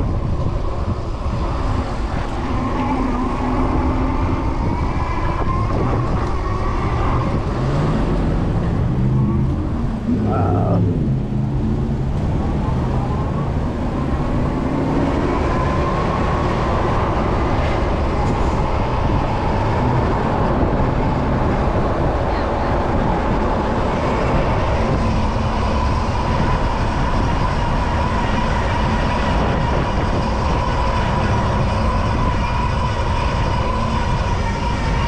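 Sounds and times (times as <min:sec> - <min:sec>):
wind and road noise rumble: 0:00.0 - 0:35.0.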